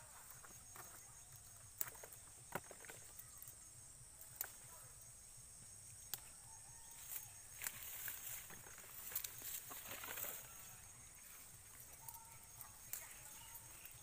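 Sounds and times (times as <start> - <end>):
faint high insect buzz: 0.0 - 14.0.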